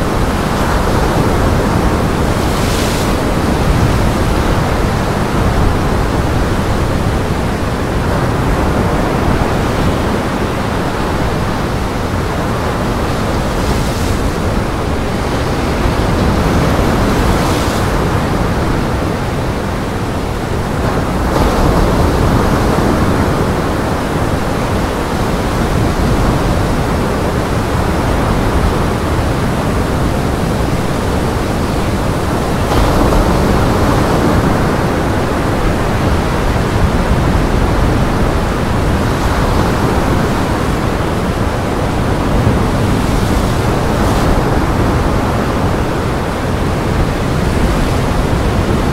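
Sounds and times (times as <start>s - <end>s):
storm waves breaking: 0.0s - 48.9s
strong wind: 0.0s - 48.9s.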